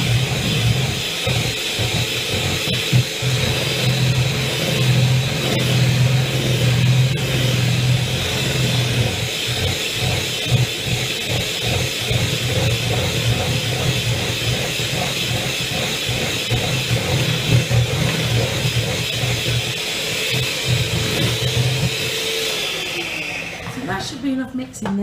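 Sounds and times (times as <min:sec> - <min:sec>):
electric hand mixer running: 0:00.0 - 0:24.2.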